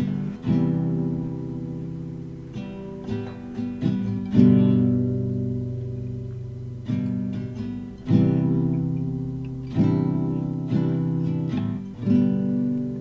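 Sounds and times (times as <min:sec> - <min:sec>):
guitar strumming slow chords: 0:00.0 - 0:13.0.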